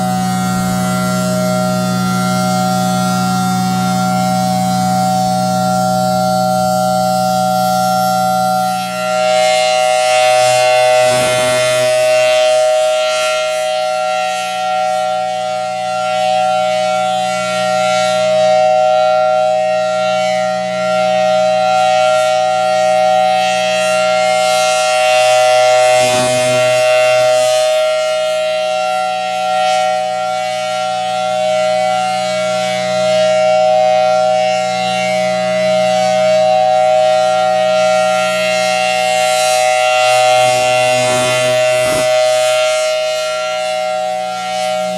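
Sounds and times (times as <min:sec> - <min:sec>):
civil defense siren steady tone: 0:00.0 - 0:44.9.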